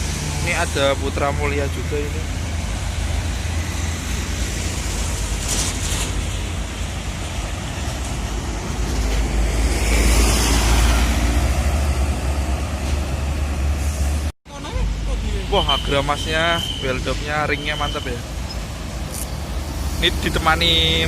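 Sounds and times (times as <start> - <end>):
bus passing close: 0.0 - 21.0.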